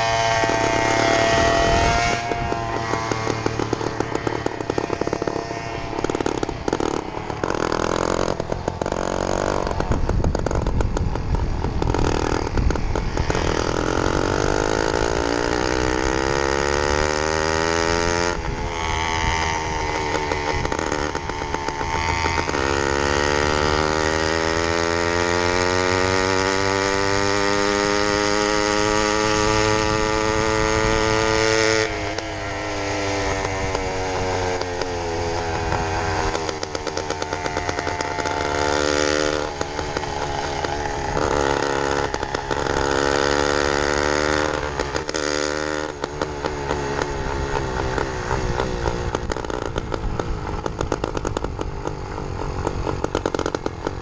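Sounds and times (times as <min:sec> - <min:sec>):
two-stroke engine accelerating: 0:00.0 - 0:54.0.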